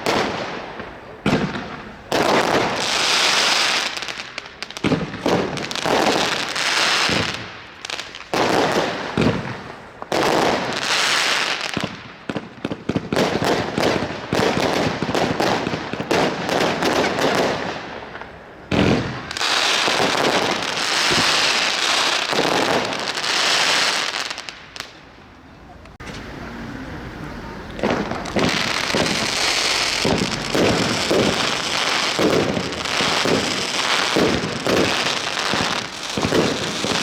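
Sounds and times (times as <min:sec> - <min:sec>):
fireworks firing with crackling: 0:00.0 - 0:25.0, 0:27.6 - 0:37.0.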